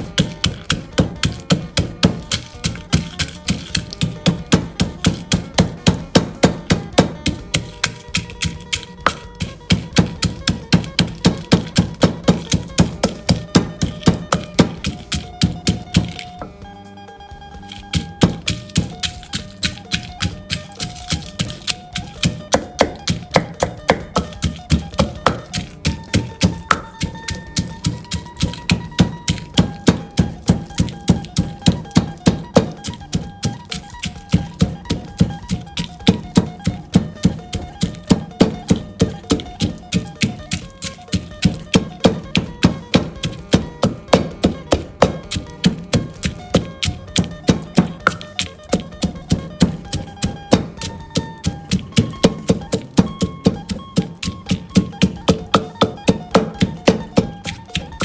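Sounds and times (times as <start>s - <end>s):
background music: 0.0s - 58.0s
pestle pounding in a mortar: 0.0s - 58.0s.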